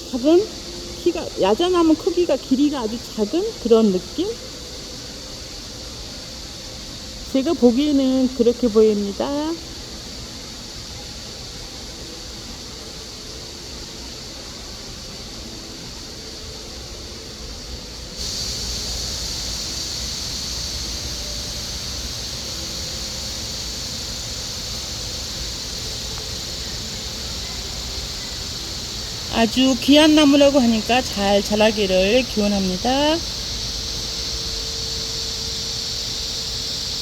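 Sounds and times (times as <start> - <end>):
shrill insect drone: 0.0 - 37.0.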